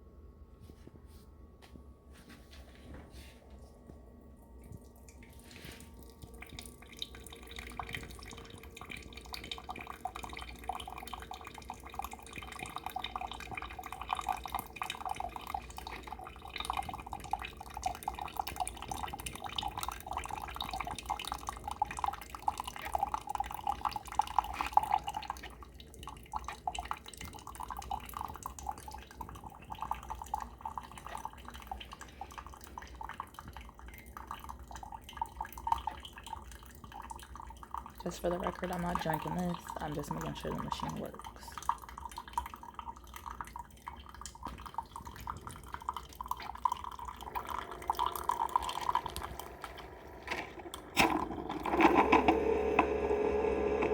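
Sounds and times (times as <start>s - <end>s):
coffee trickling into a cup: 3.6s - 53.9s.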